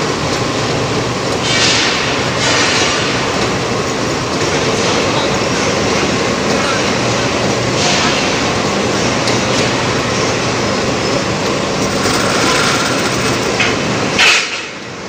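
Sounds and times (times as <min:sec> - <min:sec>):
factory machinery noise: 0:00.0 - 0:15.0.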